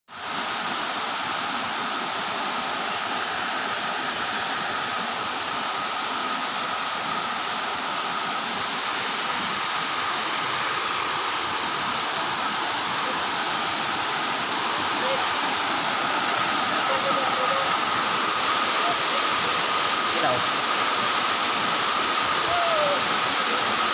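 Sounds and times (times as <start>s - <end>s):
waterfall rushing: 0.1s - 23.9s.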